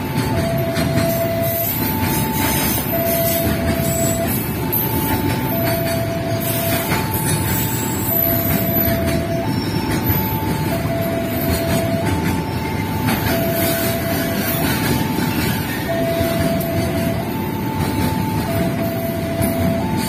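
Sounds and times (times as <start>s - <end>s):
freight wagons rumbling on rail: 0.0s - 20.0s
two-note crossing alarm: 0.0s - 20.0s.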